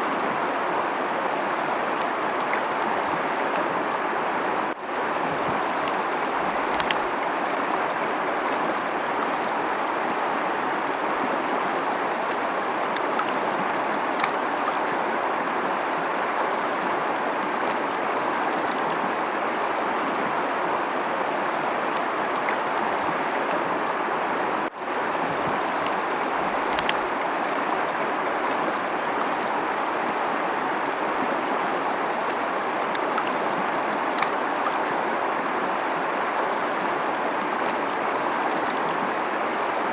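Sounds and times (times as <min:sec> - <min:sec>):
faint water splashes: 0:00.0 - 0:39.9
river rushing over rocks: 0:00.0 - 0:39.9.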